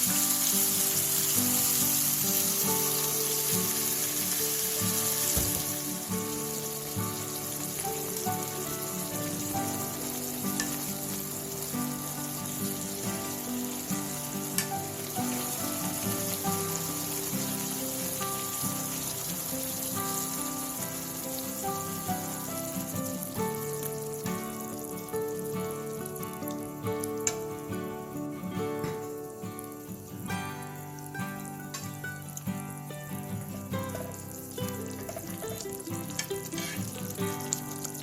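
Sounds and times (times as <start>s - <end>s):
food sizzling in a pan: 0.0s - 38.0s
gentle background music: 0.0s - 38.0s.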